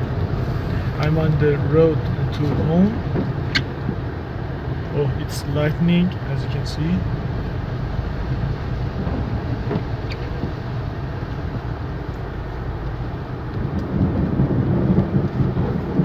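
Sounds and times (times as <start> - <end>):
in-car rumble: 0.0 - 16.0
rain hissing: 0.0 - 16.0.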